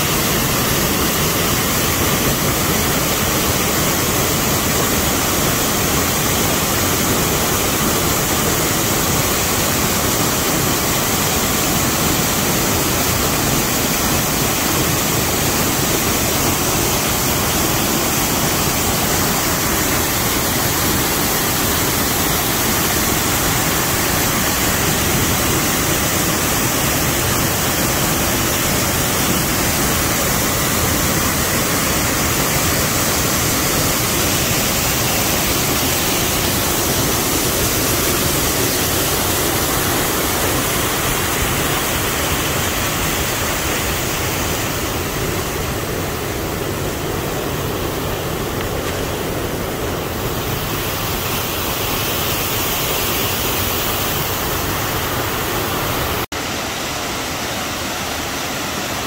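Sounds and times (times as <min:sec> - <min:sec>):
waterfall crashing onto rock: 0:00.0 - 0:59.0.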